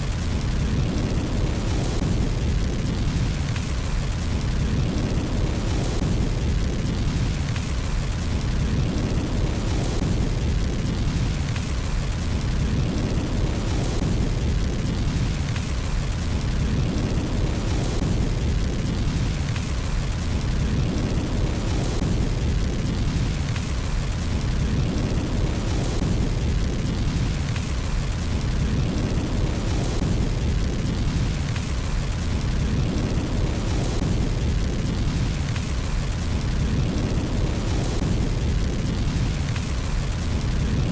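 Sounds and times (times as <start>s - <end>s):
fire crackling: 0.0s - 40.9s
low fire rumble: 0.0s - 40.9s.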